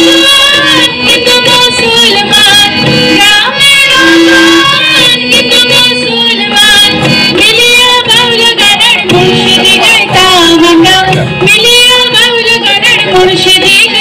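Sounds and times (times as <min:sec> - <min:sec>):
instrumental accompaniment: 0:00.0 - 0:14.0
women singing into microphone: 0:00.0 - 0:14.0.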